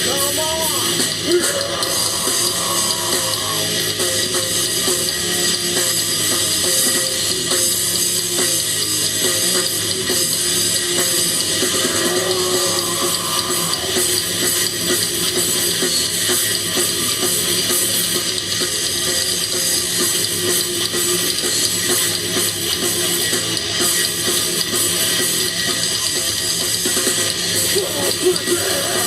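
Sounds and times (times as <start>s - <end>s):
drum kit: 0.0s - 29.0s
electric guitars: 0.0s - 29.0s.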